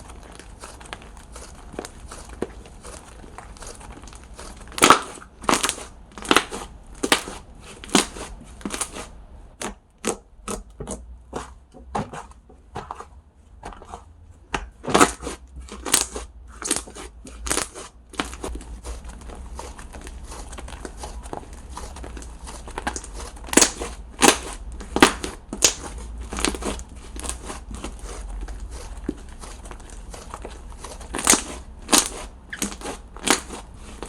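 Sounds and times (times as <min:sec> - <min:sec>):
slime squeezed popping and crackling: 0:00.0 - 0:10.7, 0:14.8 - 0:34.0.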